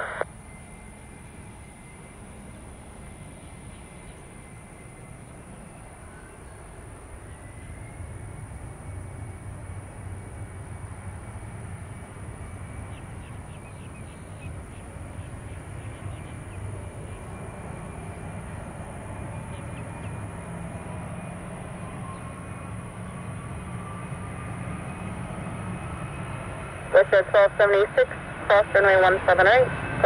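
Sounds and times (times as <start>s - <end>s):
distant jet engine rumble: 0.0s - 30.0s.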